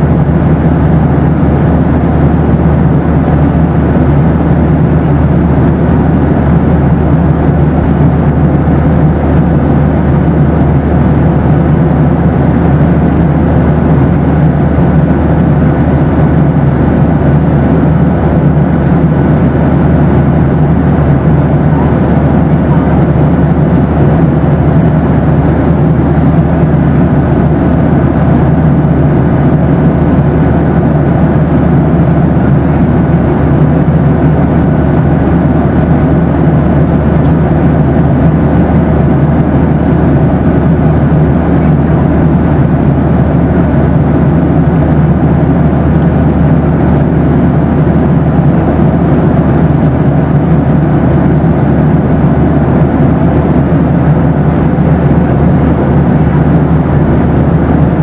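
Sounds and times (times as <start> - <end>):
airplane cabin engine rush: 0.0 - 58.0
faint steady hums: 0.0 - 58.0.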